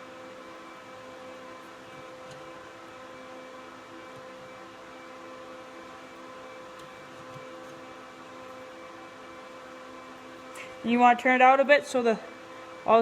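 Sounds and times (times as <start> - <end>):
motor humming with hiss: 0.0 - 10.9.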